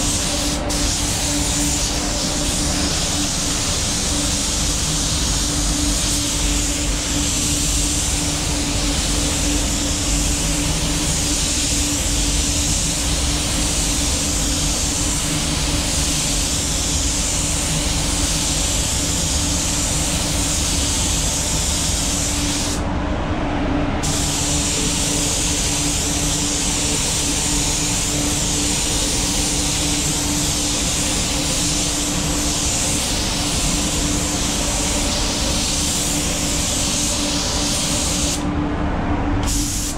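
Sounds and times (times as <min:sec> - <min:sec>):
paint spray gun hissing: 0:00.0 - 0:22.8, 0:24.0 - 0:38.4, 0:39.4 - 0:39.9
ventilation hum: 0:00.0 - 0:39.9.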